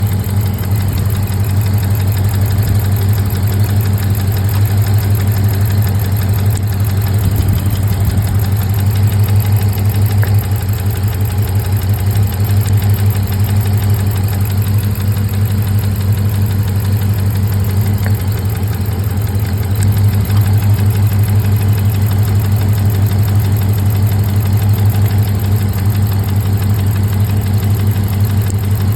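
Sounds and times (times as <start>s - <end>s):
engine idling with misfire: 0.0s - 28.9s.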